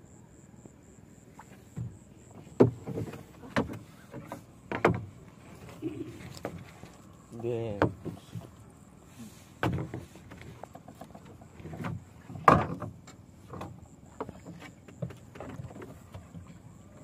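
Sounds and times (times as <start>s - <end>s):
water slapping boat hull: 1.3s - 17.0s.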